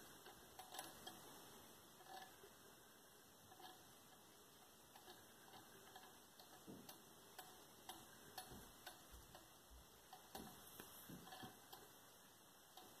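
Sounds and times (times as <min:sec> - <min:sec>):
wire ticking against magnet: 0:00.0 - 0:02.5, 0:03.5 - 0:12.0, 0:12.6 - 0:13.0.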